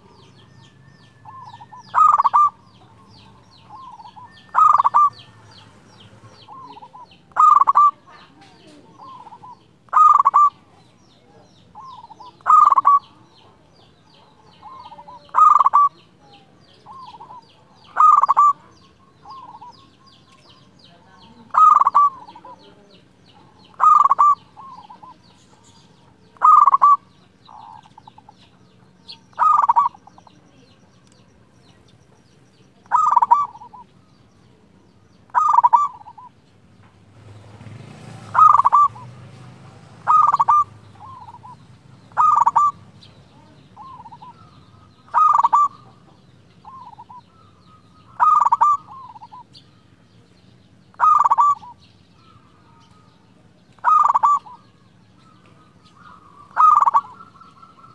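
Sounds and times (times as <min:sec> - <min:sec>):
dove cooing: 0:00.0 - 0:30.9, 0:32.7 - 0:34.6, 0:35.2 - 0:36.4, 0:37.2 - 0:49.6, 0:50.6 - 0:57.9.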